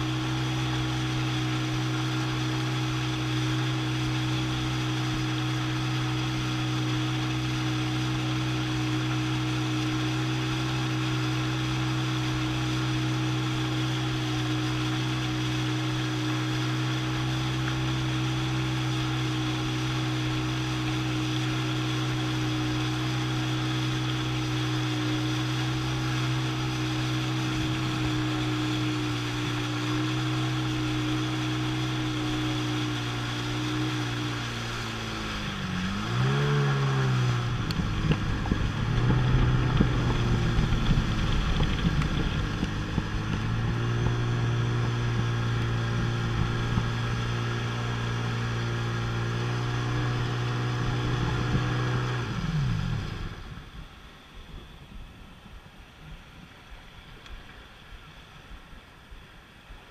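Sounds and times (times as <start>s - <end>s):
jet ski engine drone: 0.0s - 59.9s
water rushing along hull: 0.0s - 59.9s.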